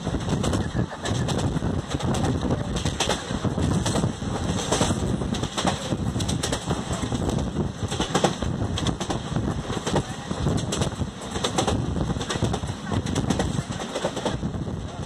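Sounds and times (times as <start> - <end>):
train rumble: 0.0 - 15.0
train wheels clattering on rails: 0.0 - 15.0
wind rushing: 0.0 - 15.0.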